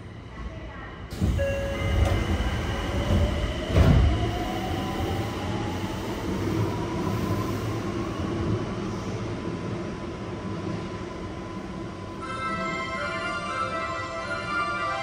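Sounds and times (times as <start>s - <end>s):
train equipment hum and rumble: 0.0s - 14.2s.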